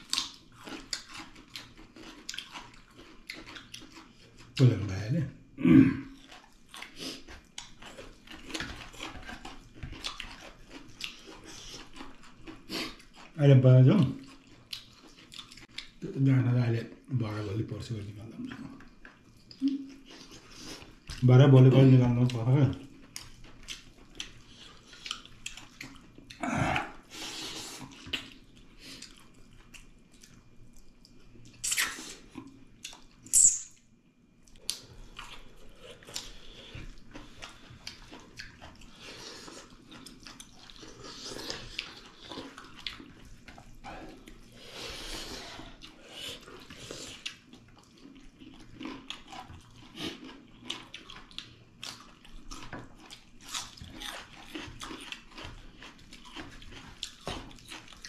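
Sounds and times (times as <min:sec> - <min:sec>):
wet chewing and lip-smacking: 0:00.0 - 0:04.6, 0:06.1 - 0:13.4, 0:14.2 - 0:16.0, 0:22.8 - 0:26.4, 0:27.0 - 0:33.3, 0:34.4 - 0:44.5, 0:45.4 - 0:58.0.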